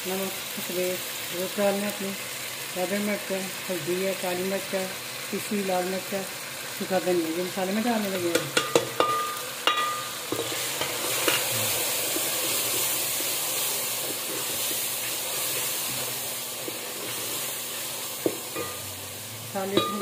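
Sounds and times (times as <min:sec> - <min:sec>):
masala sizzling in a pot: 0:00.0 - 0:20.0.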